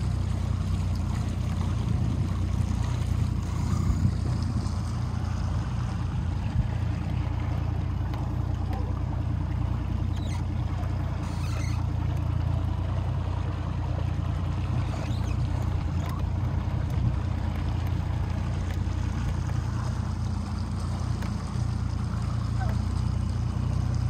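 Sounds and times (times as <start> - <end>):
boat motor humming: 0.0 - 24.0
rushing water wash: 0.0 - 24.0.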